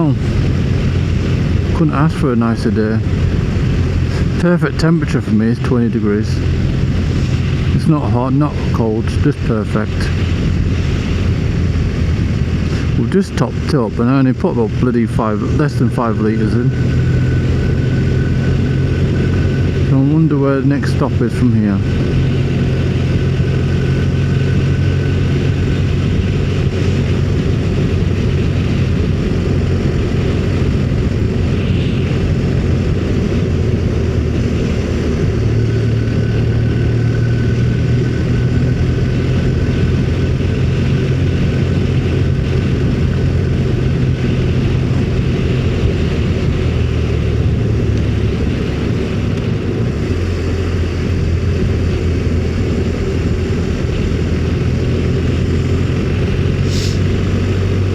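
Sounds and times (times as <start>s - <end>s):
motorcycle engine cruising: 0.0s - 57.9s
wind and road rush: 0.0s - 57.9s.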